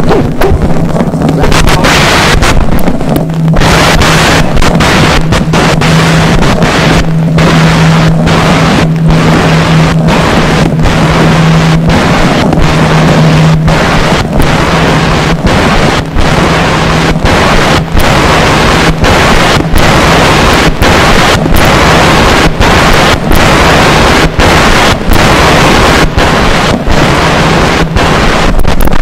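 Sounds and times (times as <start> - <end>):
harsh turntable noise roar: 0.0 - 29.0
steady low hum: 0.0 - 29.0.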